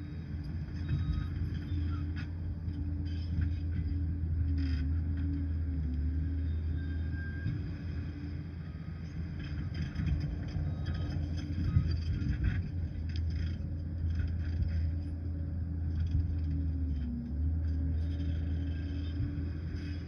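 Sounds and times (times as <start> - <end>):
dozer diesel engine running: 0.0 - 20.0.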